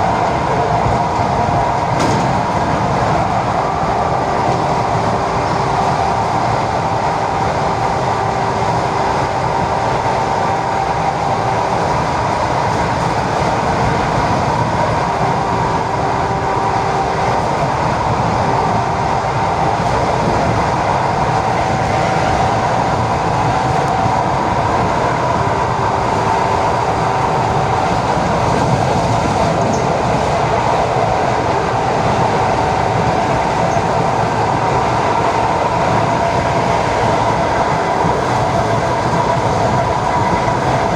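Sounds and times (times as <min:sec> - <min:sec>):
train wheels rumbling: 0:00.0 - 0:40.9.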